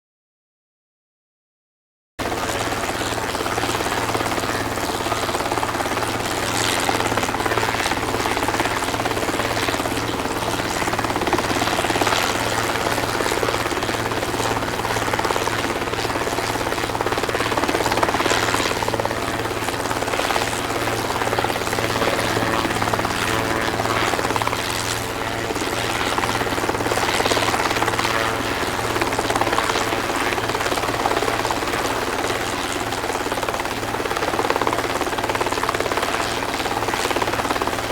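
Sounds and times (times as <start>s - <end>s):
helicopter engine and rotor drone: 2.2s - 37.9s.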